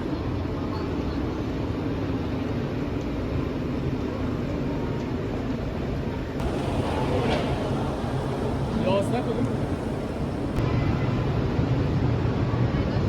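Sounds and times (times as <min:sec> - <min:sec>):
train rumble: 0:00.0 - 0:12.3
railway station noise: 0:00.0 - 0:13.0.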